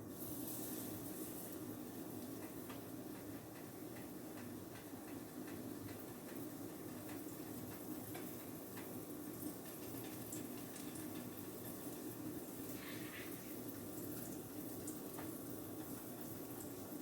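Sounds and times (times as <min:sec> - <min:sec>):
pancakes sizzling in a frying pan: 0:00.0 - 0:17.0.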